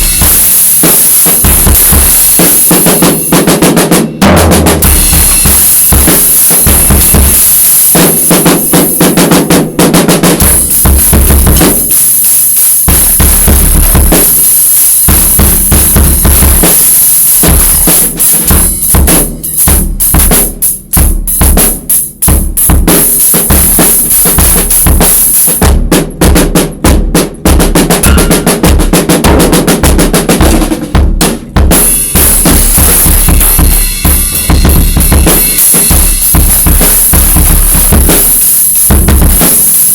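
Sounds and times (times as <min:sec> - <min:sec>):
drum kit played loud: 0:00.0 - 0:39.9.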